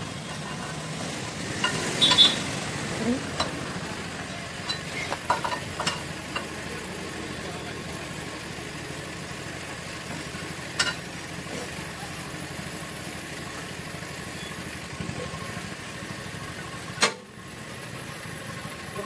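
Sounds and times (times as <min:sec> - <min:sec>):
engine-like hum with low pulsing: 0:00.0 - 0:19.0.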